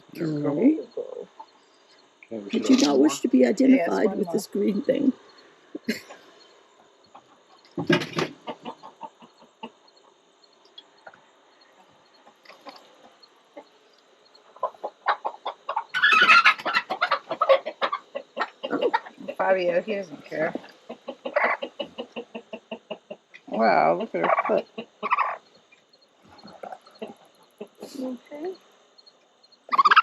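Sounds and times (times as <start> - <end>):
chickens clucking and squawking: 0.0 - 30.0.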